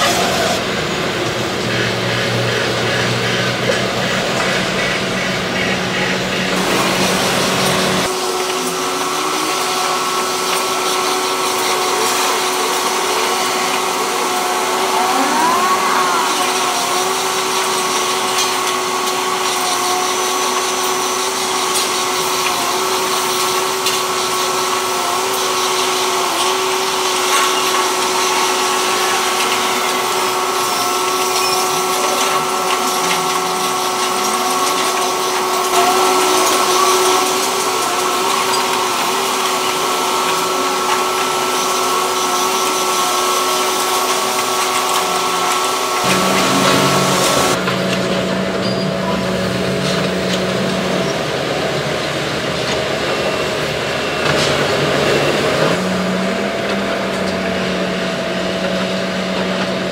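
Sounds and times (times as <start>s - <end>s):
drilling rig mechanical whine: 0.0s - 59.9s.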